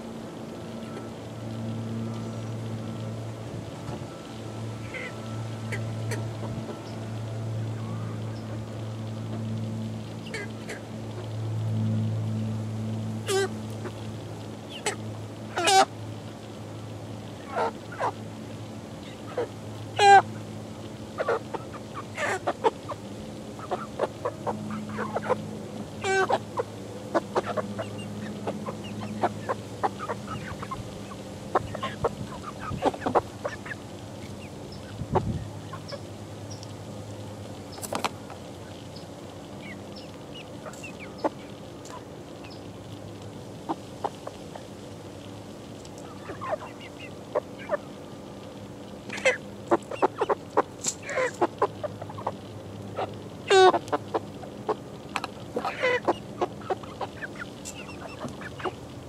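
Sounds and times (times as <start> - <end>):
chickens clucking and cheeping: 0.0 - 12.5, 13.2 - 59.0
low steady hum: 0.0 - 59.0.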